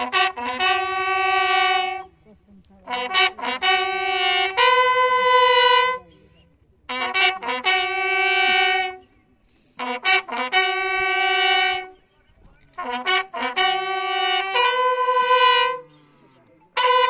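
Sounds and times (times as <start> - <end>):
bugle call: 0.0 - 6.2, 6.8 - 17.0.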